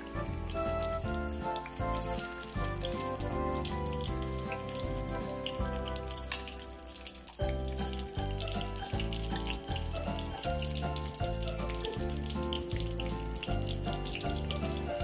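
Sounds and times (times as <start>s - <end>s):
background music: 0.0s - 15.0s
food deep-frying in hot oil: 0.0s - 15.0s.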